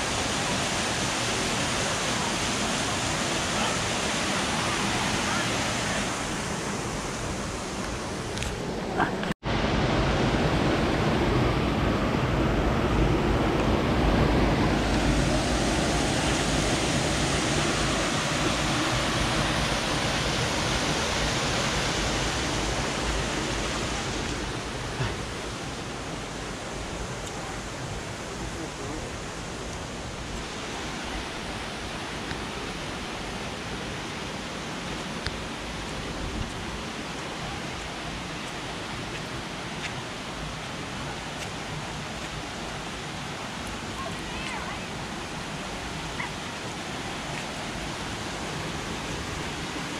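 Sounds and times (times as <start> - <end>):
creek cascades rushing: 0.0 - 49.9.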